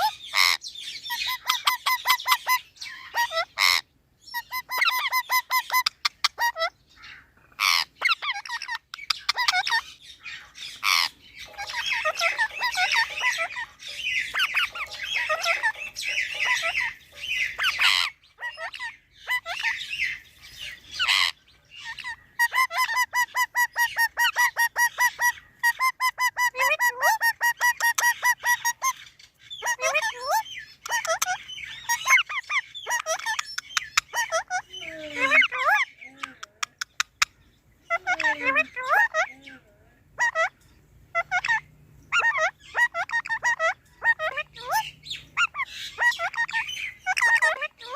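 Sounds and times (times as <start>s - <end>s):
parrots squawking and chattering: 0.0s - 47.9s.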